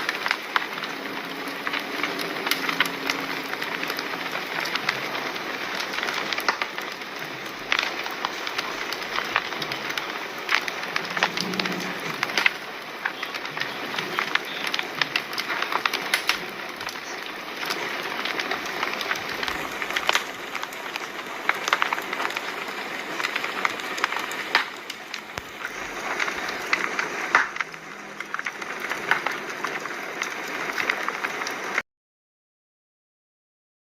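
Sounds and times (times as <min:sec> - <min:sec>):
fire crackling and popping: 0:00.0 - 0:31.8.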